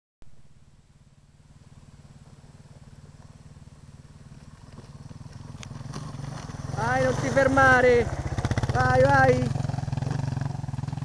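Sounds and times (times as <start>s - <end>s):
off-road motorcycle engine: 0.3s - 11.0s.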